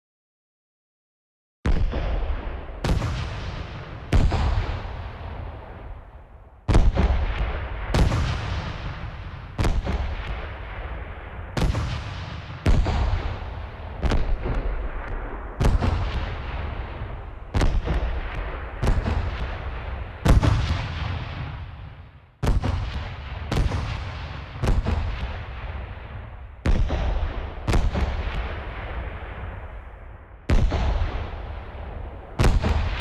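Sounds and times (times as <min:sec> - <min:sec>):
fireworks booming: 0:01.7 - 0:33.0
fireworks rumble and crackle: 0:01.7 - 0:33.0.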